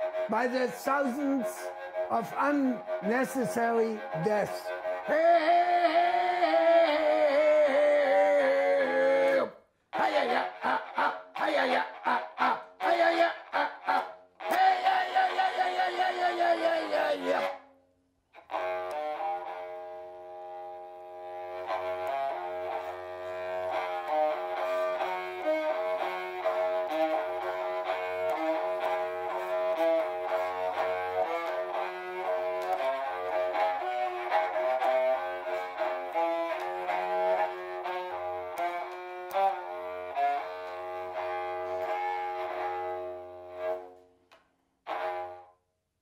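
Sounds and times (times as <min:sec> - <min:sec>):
bowed horn fiddle notes: 0:00.0 - 0:09.4, 0:14.4 - 0:17.6, 0:18.4 - 0:44.1, 0:44.8 - 0:45.6.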